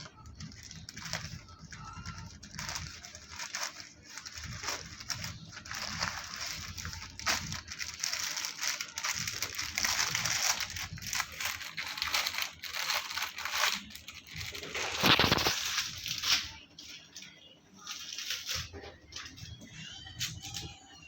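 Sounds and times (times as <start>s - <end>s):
plastic packaging crinkling: 0.0s - 20.8s.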